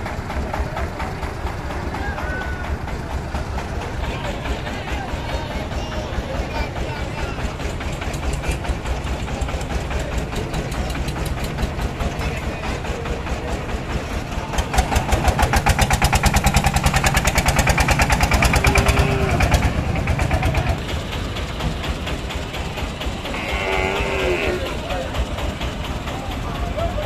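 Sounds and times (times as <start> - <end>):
truck engine chugging: 0.0 - 27.0.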